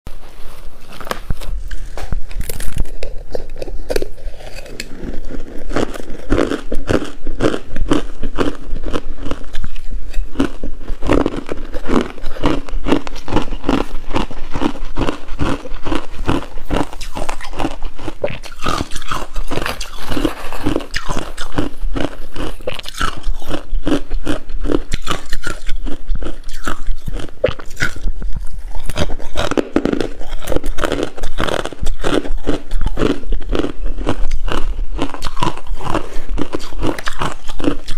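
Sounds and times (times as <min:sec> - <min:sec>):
ice being chewed: 0:00.2 - 0:37.9.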